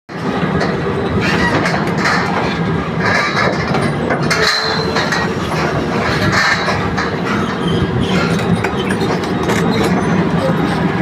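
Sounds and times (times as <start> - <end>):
excavator engine working: 0.1 - 11.0.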